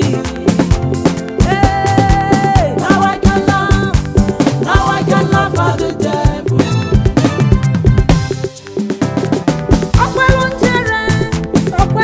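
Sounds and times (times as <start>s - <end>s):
upbeat gospel music: 0.0s - 12.0s.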